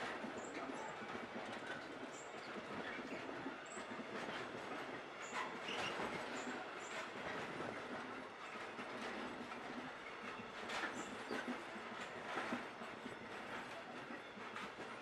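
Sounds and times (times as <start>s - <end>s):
freight train rolling rumble: 0.0s - 15.0s.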